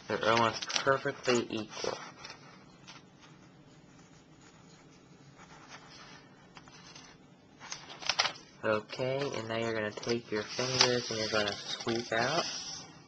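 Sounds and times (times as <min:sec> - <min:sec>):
soft paper scrapes: 0:00.1 - 0:07.9, 0:10.0 - 0:13.0
paper rustling and sliding: 0:00.1 - 0:08.4, 0:09.1 - 0:13.0.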